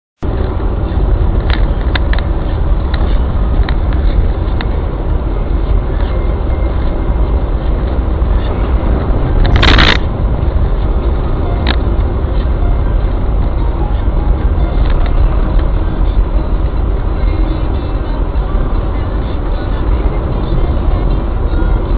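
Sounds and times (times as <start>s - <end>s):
car road and engine noise: 0.2s - 21.9s
rush of noise: 0.2s - 21.9s.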